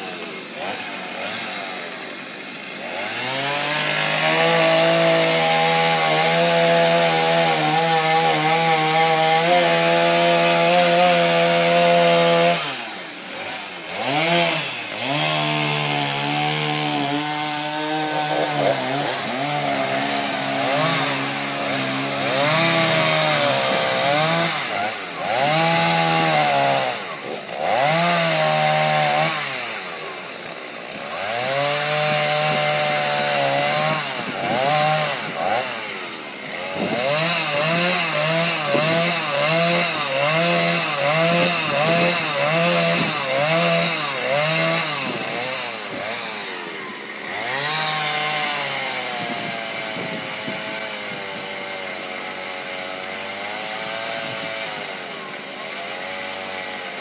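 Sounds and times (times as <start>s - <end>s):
chainsaw revving and cutting wood: 0.0s - 57.0s.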